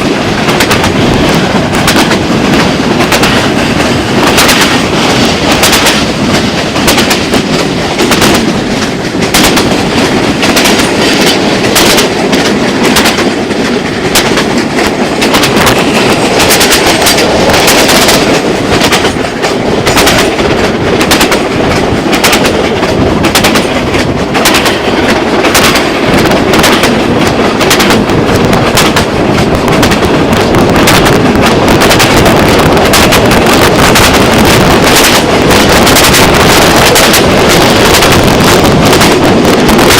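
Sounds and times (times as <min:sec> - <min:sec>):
train rumbling on rails: 0:00.0 - 0:39.9
train wheels clattering: 0:00.0 - 0:39.9.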